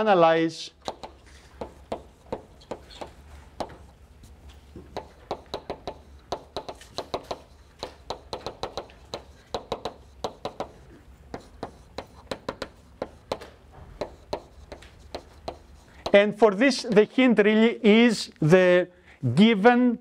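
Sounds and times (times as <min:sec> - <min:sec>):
low room hum: 0:00.0 - 0:20.0
chalk tapping on blackboard: 0:00.8 - 0:17.1.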